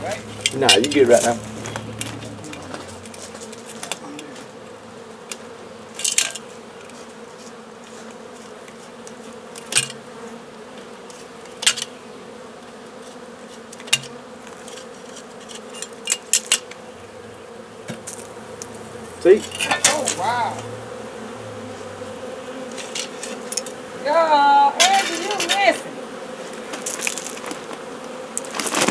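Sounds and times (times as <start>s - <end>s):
bee swarm humming: 0.0s - 28.9s.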